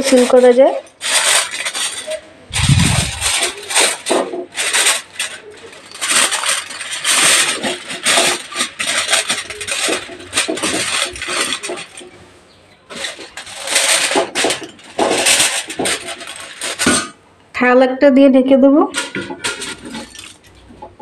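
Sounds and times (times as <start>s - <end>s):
aluminium foil crinkling: 0.0s - 12.2s, 12.9s - 17.0s, 18.9s - 21.0s.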